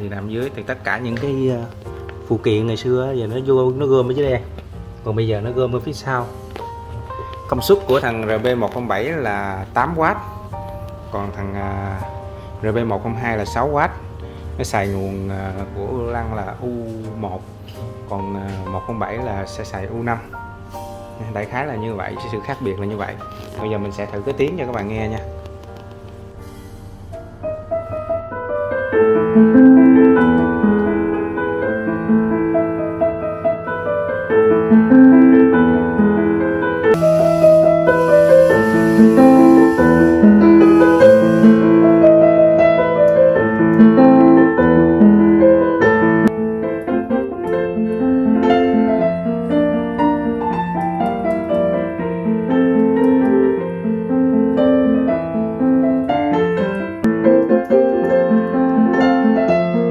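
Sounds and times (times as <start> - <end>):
digital piano playing broken chords: 0.0 - 59.9.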